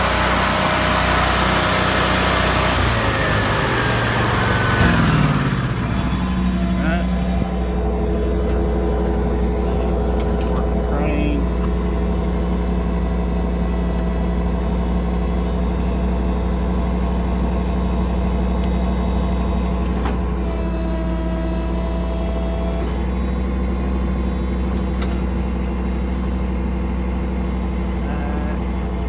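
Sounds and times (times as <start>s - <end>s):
truck engine running: 0.0s - 29.0s
welder generator running: 0.0s - 29.0s.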